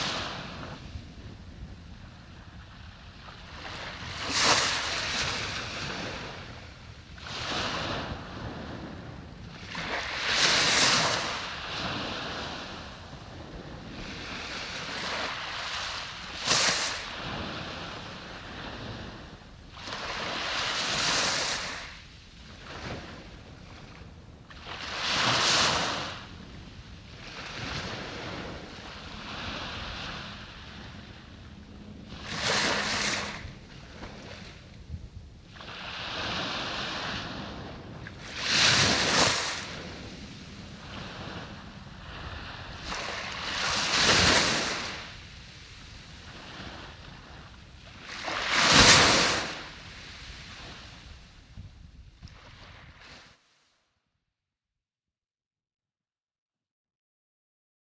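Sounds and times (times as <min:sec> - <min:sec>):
small waves breaking on sand: 0:00.0 - 0:51.6, 0:52.2 - 0:53.8.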